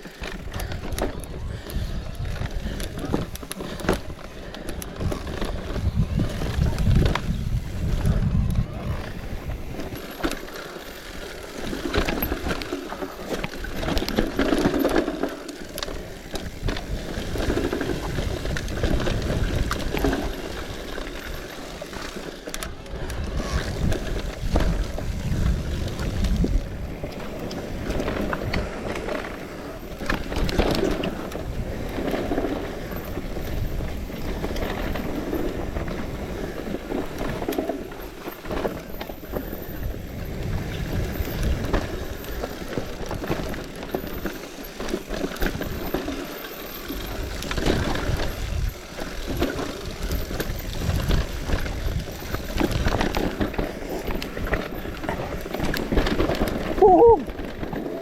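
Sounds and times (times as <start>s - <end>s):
bicycle clicks: 0.0s - 58.0s
road and tyre noise: 0.0s - 58.0s
wind buffeting microphone: 0.2s - 10.2s, 16.2s - 21.4s, 22.7s - 38.6s, 39.2s - 43.6s, 46.9s - 58.0s.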